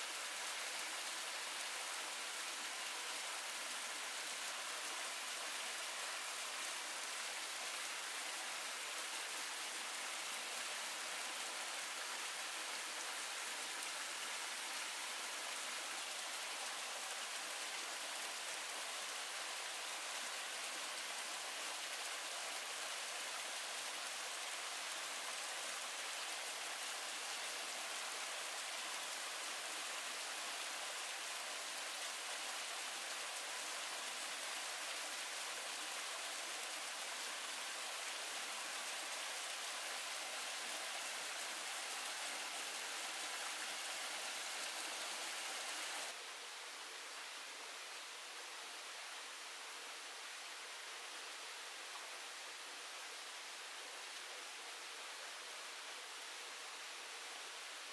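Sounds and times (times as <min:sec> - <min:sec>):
rain falling: 0:00.0 - 0:57.9
stream running over rocks: 0:00.0 - 0:57.9.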